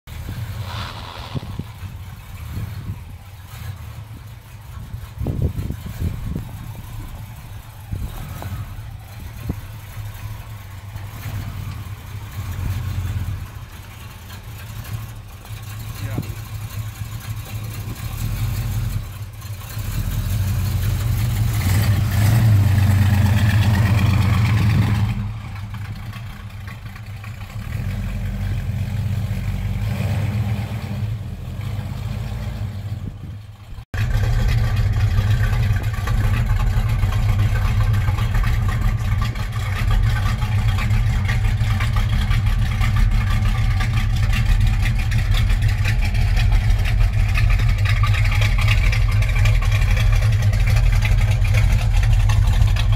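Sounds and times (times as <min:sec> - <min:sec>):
car engine running through exhaust: 0:00.0 - 0:52.9.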